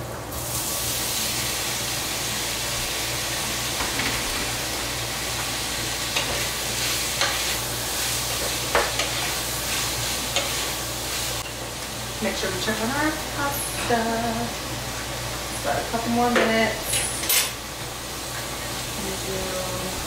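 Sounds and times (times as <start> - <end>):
seafood sizzling in a frying pan: 0.3 - 20.0.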